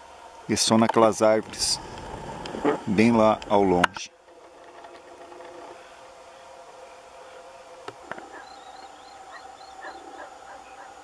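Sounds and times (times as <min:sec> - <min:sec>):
distant birds calling: 0:00.0 - 0:11.0
faint steady drone: 0:00.0 - 0:11.0.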